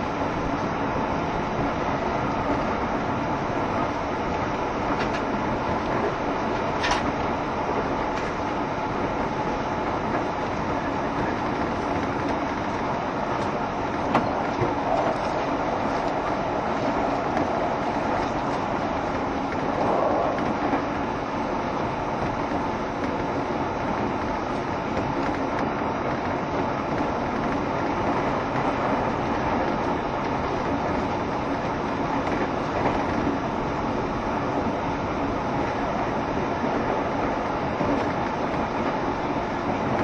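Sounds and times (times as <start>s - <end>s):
electric train running: 0.0s - 40.0s.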